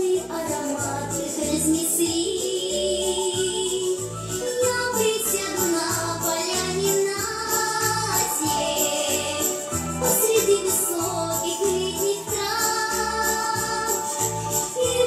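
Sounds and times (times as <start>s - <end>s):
jingling shaker percussion: 0.0s - 15.0s
woman singing pop song: 0.0s - 15.0s.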